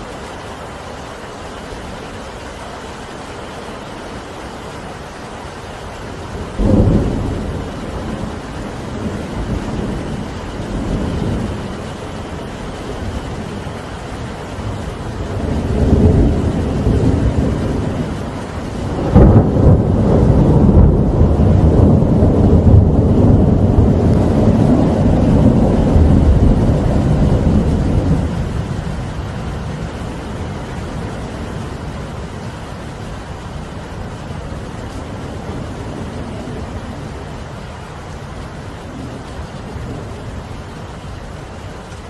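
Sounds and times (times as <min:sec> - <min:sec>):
steady rain: 0:00.0 - 0:42.0
thunderclap rumbling: 0:06.1 - 0:42.0.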